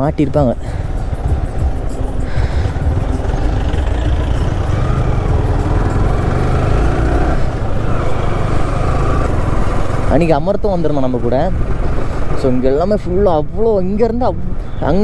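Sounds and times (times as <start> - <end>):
motorcycle running: 0.0 - 15.0.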